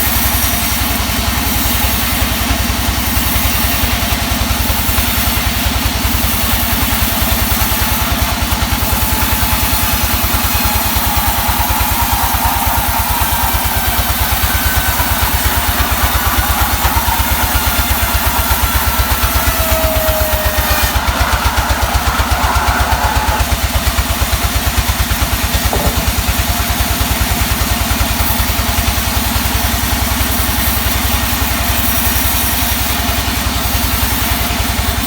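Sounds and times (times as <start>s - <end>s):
sawmill engine chugging: 0.0s - 35.0s.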